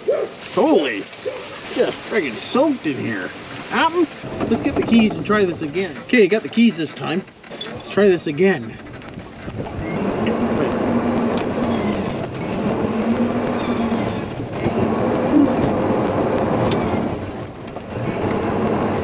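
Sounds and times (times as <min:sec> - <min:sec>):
golf cart motor hum: 0:00.0 - 0:19.0
tyre and wind rush: 0:00.0 - 0:19.0.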